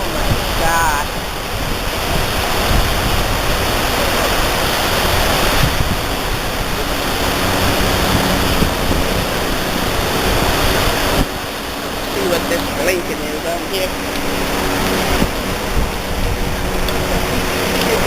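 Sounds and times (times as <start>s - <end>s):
waterfall rushing: 0.0s - 18.0s
wind buffeting microphone: 0.0s - 18.0s.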